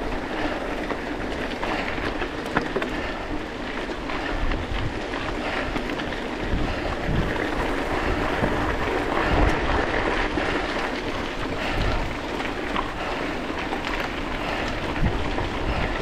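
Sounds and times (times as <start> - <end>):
bicycle tyres crunching on gravel: 0.0 - 16.0
wind buffeting microphone: 0.0 - 16.0.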